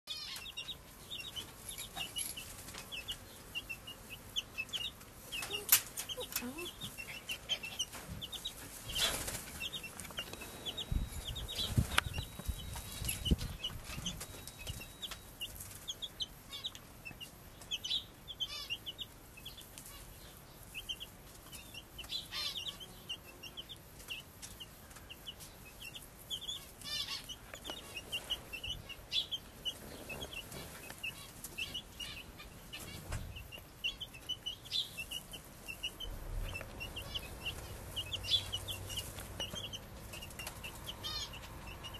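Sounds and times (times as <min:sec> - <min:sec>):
chick peeping: 0:00.0 - 0:41.9
hen clucking: 0:00.1 - 0:41.9.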